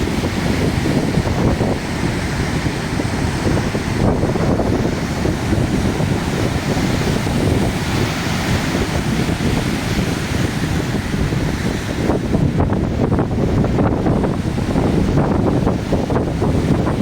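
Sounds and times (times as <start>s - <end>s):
heavy surf rumbling: 0.0s - 17.0s
wind buffeting microphone: 0.0s - 17.0s.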